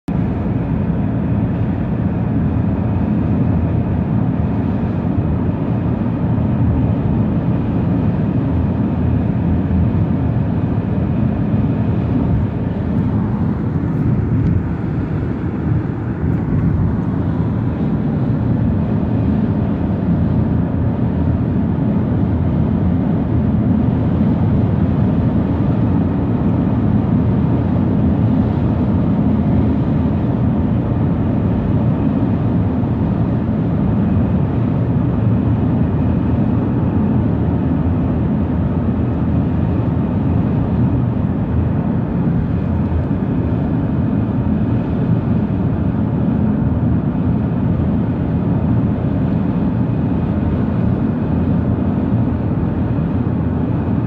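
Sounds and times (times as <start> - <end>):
car cabin road rumble: 0.1 - 54.0.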